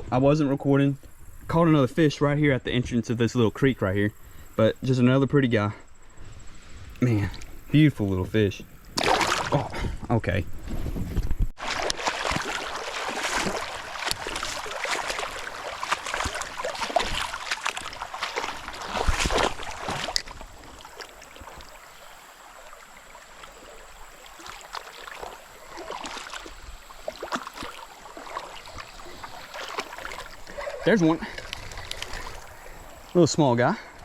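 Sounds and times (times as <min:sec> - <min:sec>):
water splashing around kayak: 0:06.0 - 0:34.0.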